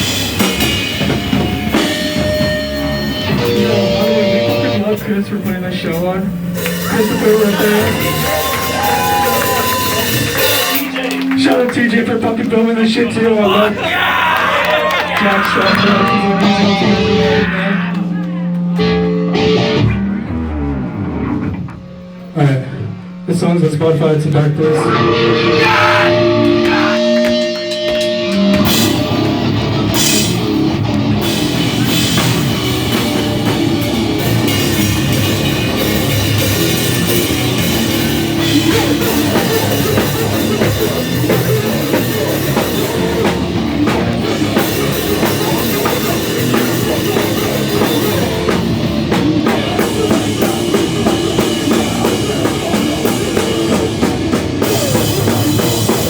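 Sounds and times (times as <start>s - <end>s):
held guitar notes: 0.0s - 13.4s, 15.7s - 56.0s
rock band playing loud: 0.0s - 23.2s, 24.5s - 56.0s.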